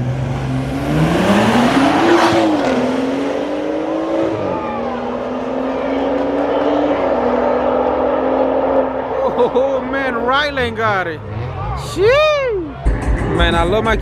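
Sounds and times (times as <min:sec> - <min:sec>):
racing car engine accelerating: 0:00.0 - 0:14.0.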